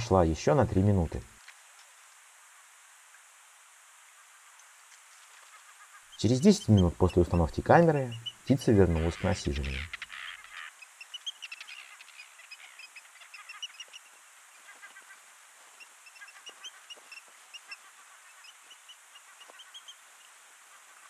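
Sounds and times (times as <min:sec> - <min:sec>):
birds calling faintly: 0:04.0 - 0:21.0.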